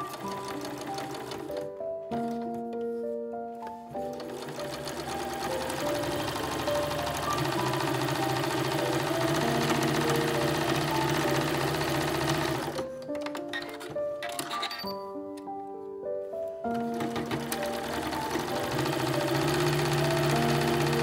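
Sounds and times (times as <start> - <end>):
sewing machine stitching: 0.0 - 2.4, 4.0 - 15.0, 16.8 - 21.0.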